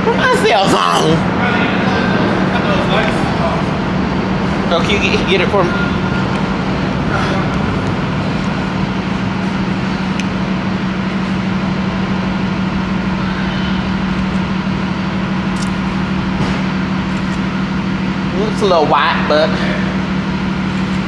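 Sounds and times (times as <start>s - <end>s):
motor vehicle running hum: 0.0s - 21.0s.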